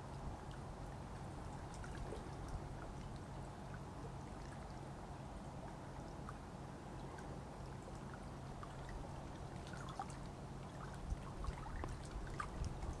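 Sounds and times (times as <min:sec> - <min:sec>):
low background noise: 0:00.0 - 0:13.0
small splashes and drips: 0:00.0 - 0:13.0
lake water lapping: 0:00.1 - 0:13.0.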